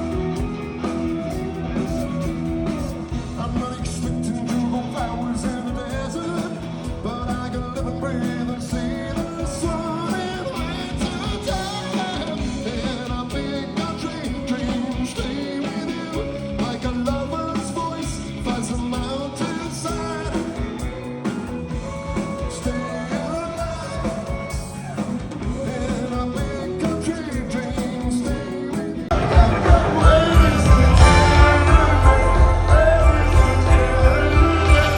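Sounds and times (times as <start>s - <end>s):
lead vocalist singing: 0.0s - 34.9s
live rock band playing: 0.0s - 34.9s.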